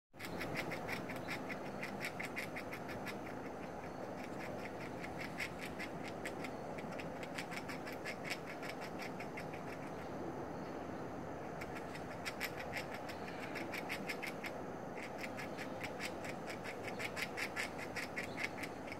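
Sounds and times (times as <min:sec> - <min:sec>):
squirrel gnawing food: 0:00.2 - 0:18.9.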